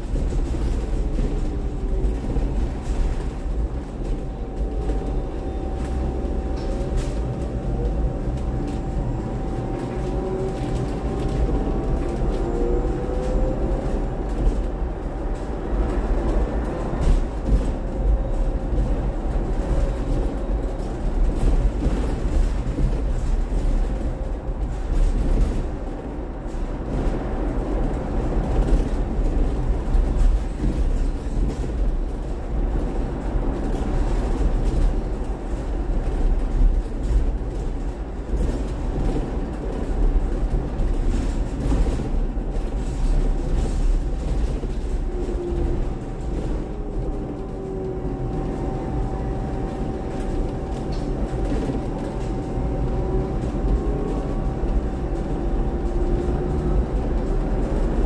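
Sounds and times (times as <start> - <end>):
bus road rumble: 0.0 - 58.0
knocks and rattles: 0.0 - 58.0.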